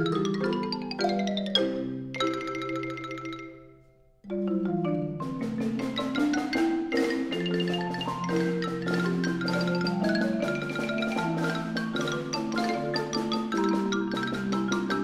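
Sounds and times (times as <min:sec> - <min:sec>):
fast xylophone solo: 0:00.0 - 0:15.0
marimbas playing held notes: 0:00.0 - 0:15.0.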